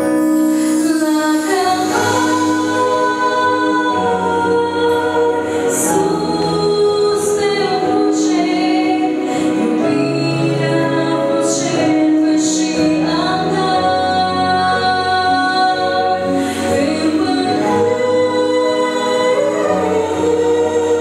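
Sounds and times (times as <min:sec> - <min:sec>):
sustained instrumental accompaniment: 0:00.0 - 0:21.0
woman singing into a microphone: 0:00.0 - 0:21.0.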